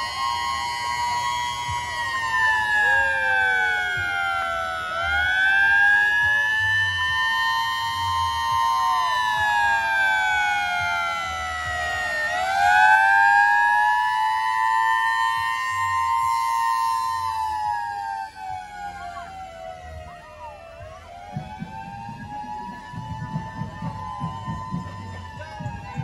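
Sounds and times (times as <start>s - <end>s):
fire truck siren wailing: 0.0s - 26.0s.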